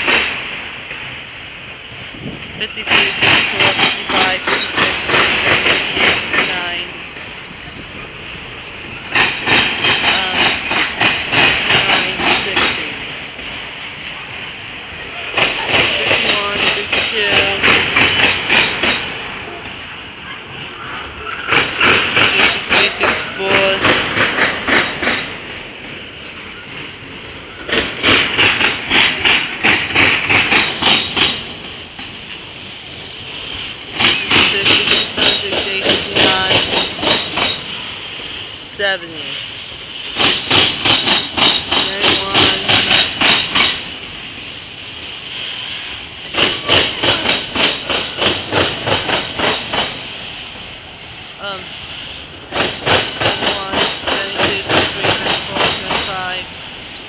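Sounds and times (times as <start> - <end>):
train rolling rumble: 0.0 - 57.0
train wheels clicking over rail joints: 0.0 - 57.0.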